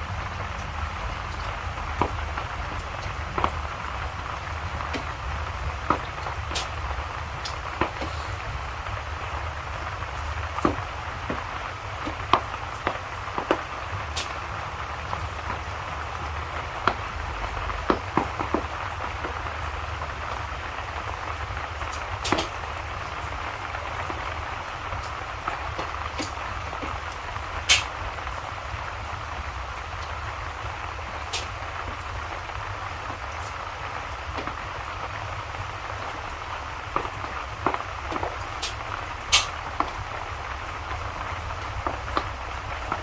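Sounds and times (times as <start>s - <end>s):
fireplace pops and crackles: 0.0s - 43.0s
steady rain: 0.0s - 43.0s.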